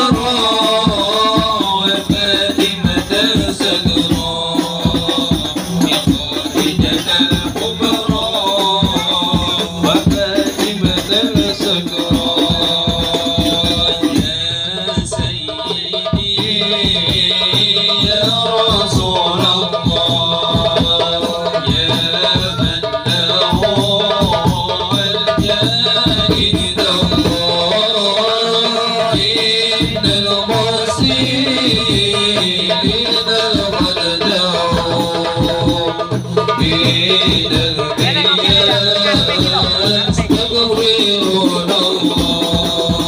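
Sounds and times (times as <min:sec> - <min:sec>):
frame drums: 0:00.0 - 0:43.0
group singing in unison: 0:00.0 - 0:43.0
jingling percussion: 0:00.0 - 0:43.0.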